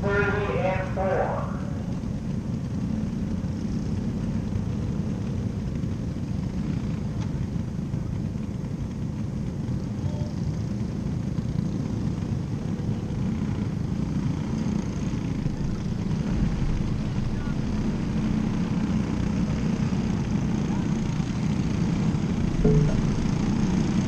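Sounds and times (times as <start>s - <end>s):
race car engines rumbling: 0.0s - 24.0s.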